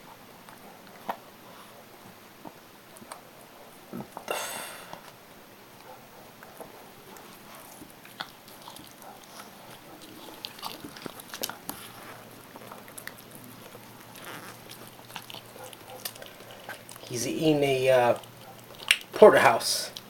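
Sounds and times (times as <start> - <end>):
dog gnawing a bone: 0.0 - 4.3, 5.8 - 20.0.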